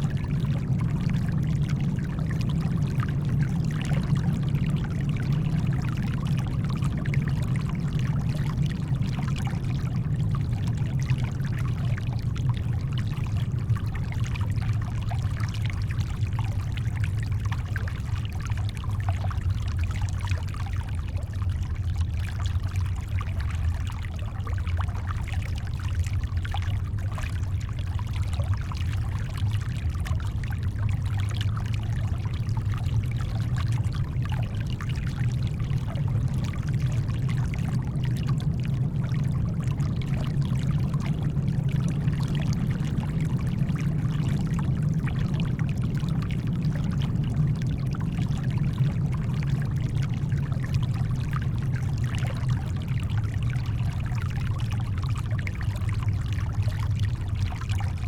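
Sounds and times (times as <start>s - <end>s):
shoreline water trickling: 0.0s - 58.0s.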